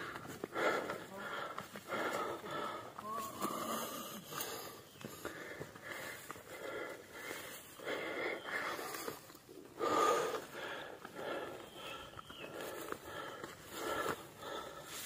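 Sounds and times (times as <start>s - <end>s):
person panting heavily: 0.0s - 15.0s.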